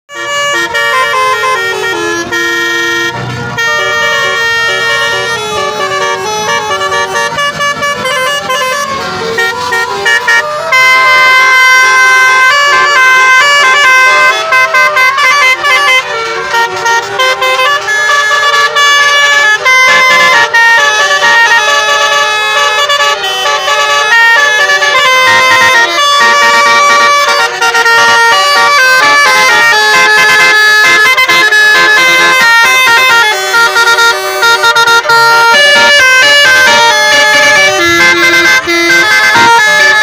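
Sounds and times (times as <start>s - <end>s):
musical air horn playing a tune: 0.1s - 40.0s.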